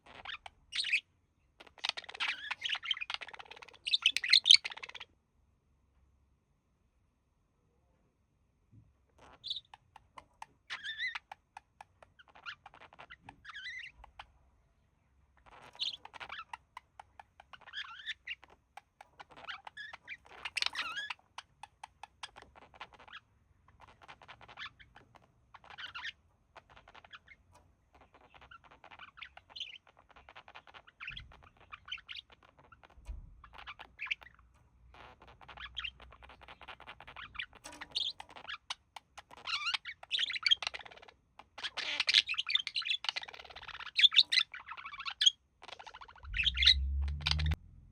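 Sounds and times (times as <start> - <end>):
budgerigars chattering: 0.0 - 1.0, 1.6 - 5.1, 9.3 - 9.8, 10.7 - 14.3, 15.4 - 47.6.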